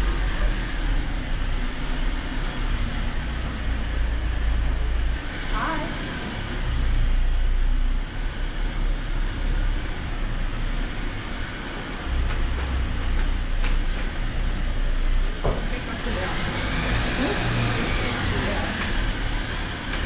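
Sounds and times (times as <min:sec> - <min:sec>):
engine running at low crawl: 0:00.0 - 0:20.0.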